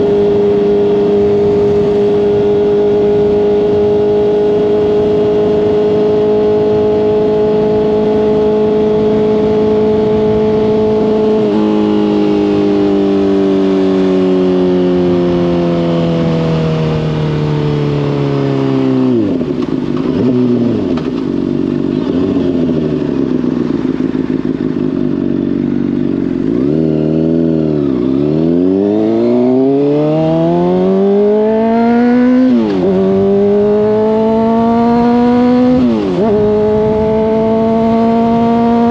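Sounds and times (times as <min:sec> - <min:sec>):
sport bike engine revving: 0:00.0 - 0:38.9.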